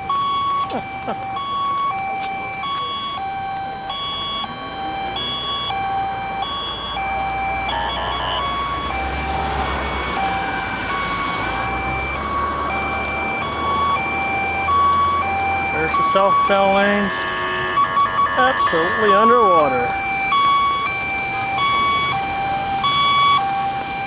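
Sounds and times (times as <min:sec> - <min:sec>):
electronic two-tone alarm: 0:00.0 - 0:24.0
traffic noise: 0:00.0 - 0:24.0.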